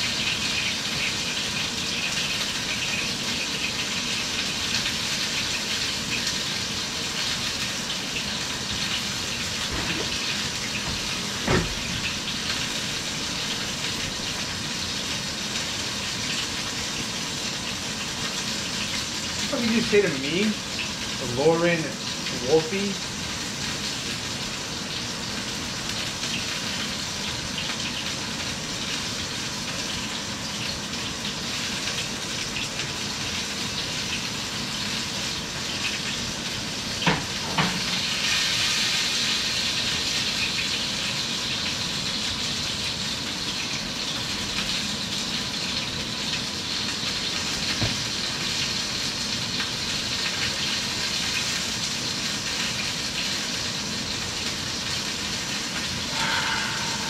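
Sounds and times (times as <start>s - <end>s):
food hissing on stove: 0.0s - 57.0s.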